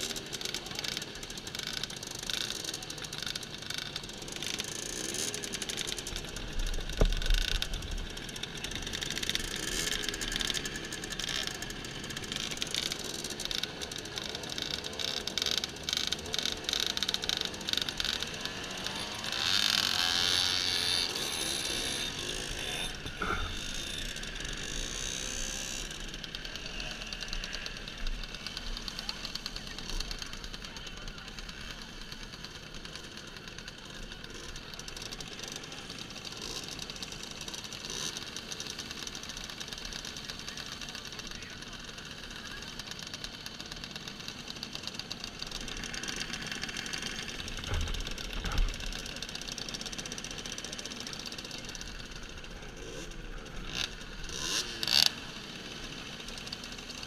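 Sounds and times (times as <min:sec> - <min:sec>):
moped engine revving: 0:00.0 - 0:57.0
moped engines idling: 0:00.0 - 0:57.0.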